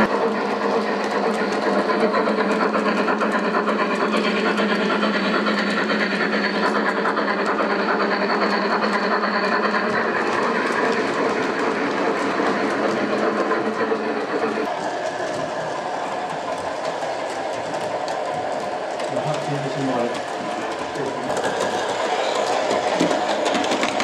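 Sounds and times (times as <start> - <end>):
model train motor hum: 0.0 - 24.0
wheels clicking over rails: 0.0 - 24.0.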